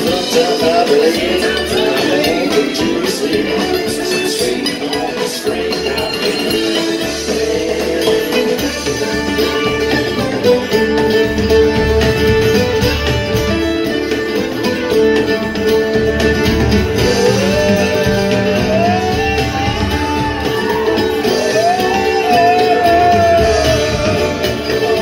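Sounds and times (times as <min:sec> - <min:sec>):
acoustic guitar: 0:00.0 - 0:25.0
acoustic string band playing: 0:00.0 - 0:25.0
banjo: 0:00.0 - 0:25.0
sliding lead melody: 0:00.0 - 0:25.0.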